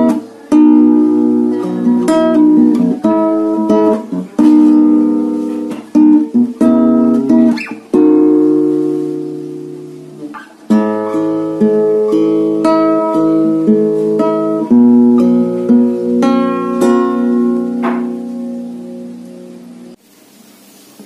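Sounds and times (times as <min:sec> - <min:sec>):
nylon-string guitar chords: 0:00.0 - 0:20.0.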